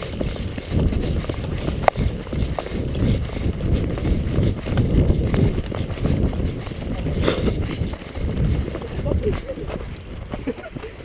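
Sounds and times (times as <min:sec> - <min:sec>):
running footsteps thudding: 0:00.0 - 0:11.0.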